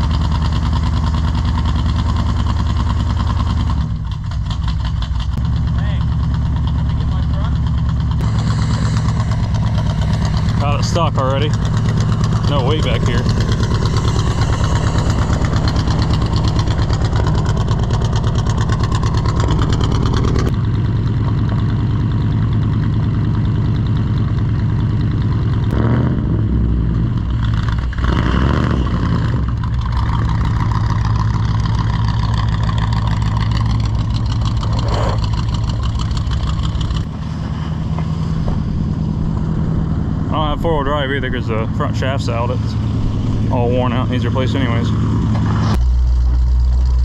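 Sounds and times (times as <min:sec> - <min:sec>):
truck engine running: 0:00.0 - 0:47.0.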